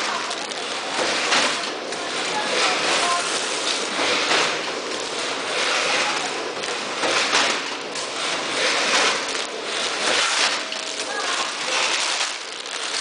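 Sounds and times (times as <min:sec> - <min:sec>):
packing machine hissing: 0:00.0 - 0:13.0
plastic bags rustling: 0:00.0 - 0:13.0.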